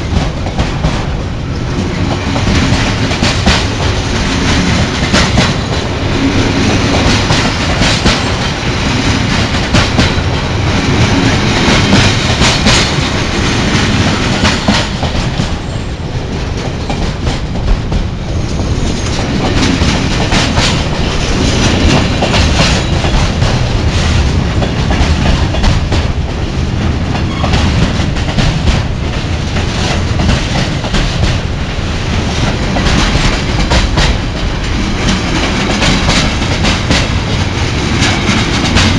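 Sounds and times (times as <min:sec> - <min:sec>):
train rumbling on rails: 0:00.0 - 0:38.9
wheels clacking over rail joints: 0:00.0 - 0:38.9.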